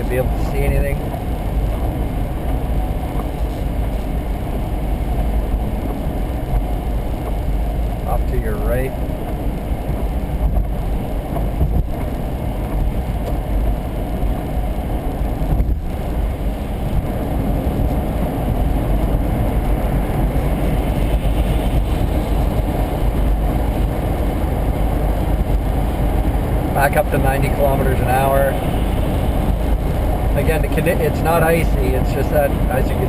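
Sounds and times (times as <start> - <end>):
car cabin road noise: 0.0 - 33.0.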